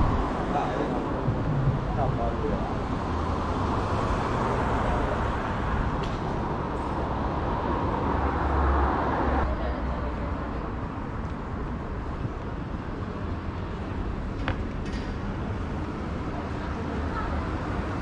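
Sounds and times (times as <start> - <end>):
cars passing on street: 0.0 - 18.0.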